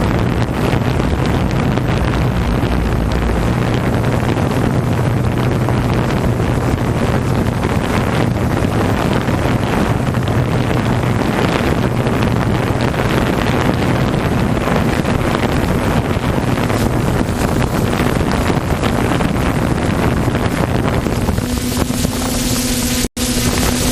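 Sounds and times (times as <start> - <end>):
jet ski engine drone: 0.0 - 23.9
wind noise on microphone: 0.0 - 23.9.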